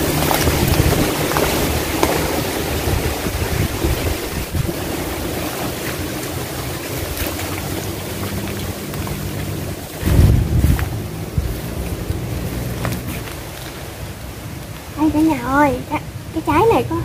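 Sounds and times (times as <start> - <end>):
footsteps rustling grass and leaves: 0.0 - 14.9
wind buffeting microphone: 0.0 - 17.0.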